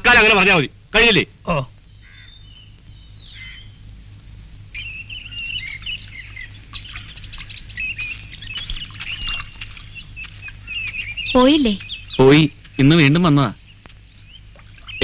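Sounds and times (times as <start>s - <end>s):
birds chirping: 0.0s - 15.0s
faint low hum: 0.0s - 15.0s.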